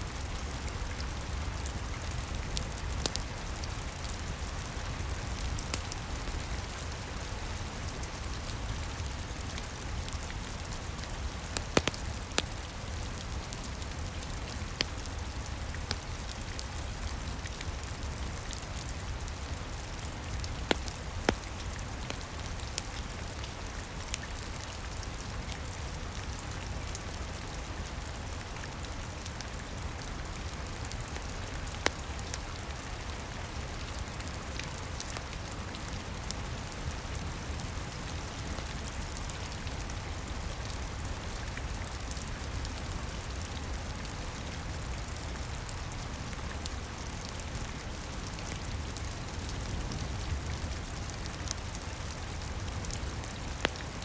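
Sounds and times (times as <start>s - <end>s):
rain on a roof: 0.0s - 54.0s
wood fire popping and crackling: 0.1s - 26.0s, 26.8s - 41.0s, 48.8s - 54.0s.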